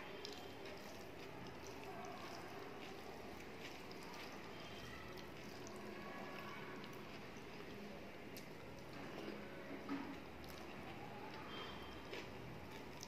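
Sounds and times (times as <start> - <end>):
fingers squishing rice and curry: 0.0 - 13.0.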